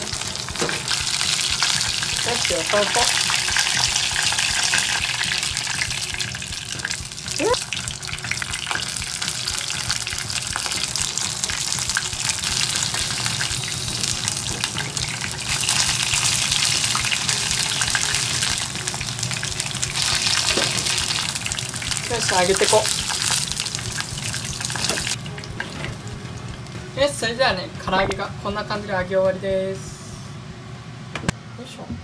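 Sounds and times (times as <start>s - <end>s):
chicken deep-frying in oil: 0.0s - 26.7s.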